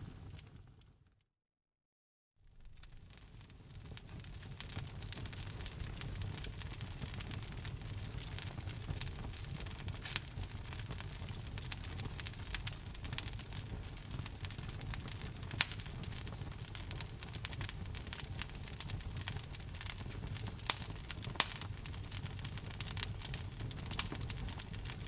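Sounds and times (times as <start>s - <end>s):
low fire rumble: 0.0s - 0.8s, 2.5s - 25.0s
logs crackling in fireplace: 0.0s - 1.0s, 2.5s - 25.0s.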